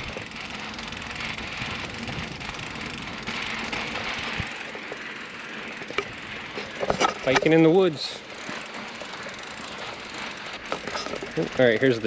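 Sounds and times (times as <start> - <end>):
bike tyres rolling on dirt: 0.0 - 12.0
wind: 0.0 - 12.0.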